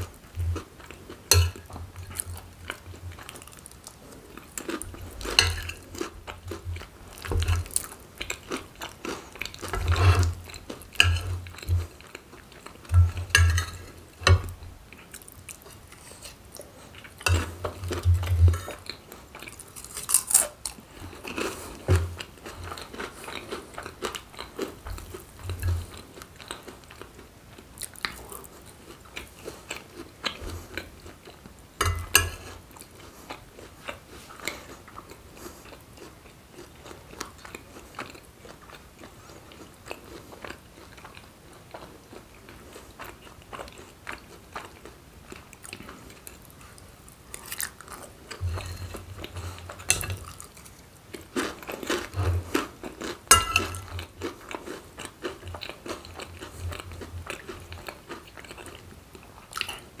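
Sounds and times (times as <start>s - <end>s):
chewing and wet mouth sounds: 0.0s - 60.0s.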